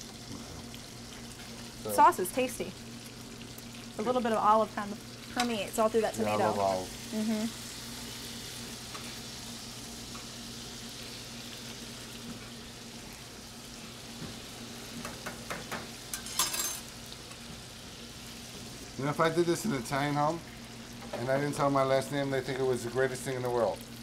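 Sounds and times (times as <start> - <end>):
fish deep-frying in hot oil: 0.0 - 24.0.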